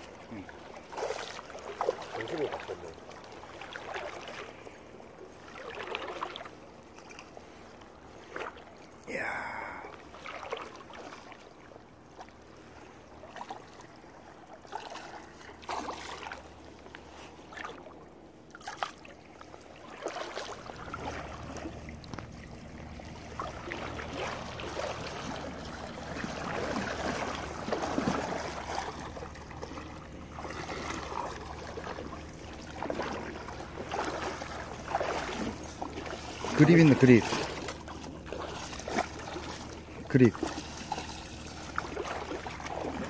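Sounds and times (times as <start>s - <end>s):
water splashing around waders: 0.0s - 43.0s.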